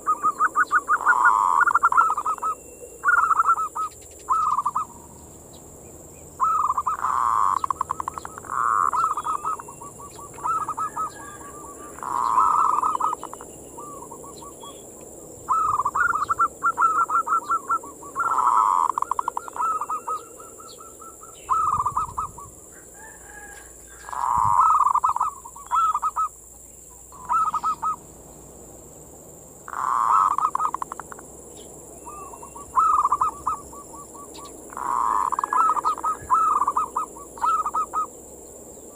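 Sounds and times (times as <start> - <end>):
dove cooing: 0.0 - 5.2, 5.8 - 26.5, 27.1 - 28.1, 29.6 - 38.2.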